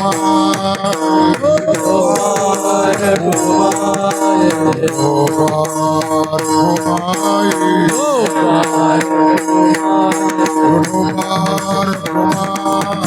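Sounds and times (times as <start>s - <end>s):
person singing wordless phrase: 1.1s - 13.0s.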